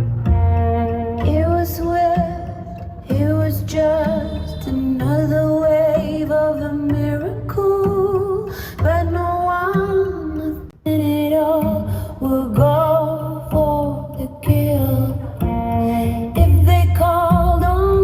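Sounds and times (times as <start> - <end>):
guitar and bass: 0.0 - 18.0
woman singing with vibrato: 0.7 - 18.0.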